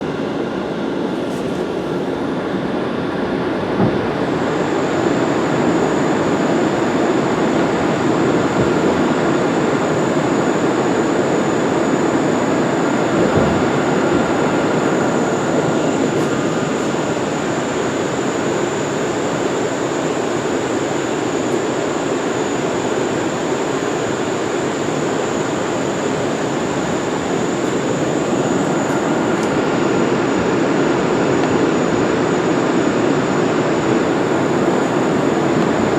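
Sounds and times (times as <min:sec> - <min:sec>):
subway train wheels rumbling on track: 0:00.0 - 0:35.9
thin high whine: 0:00.0 - 0:35.9.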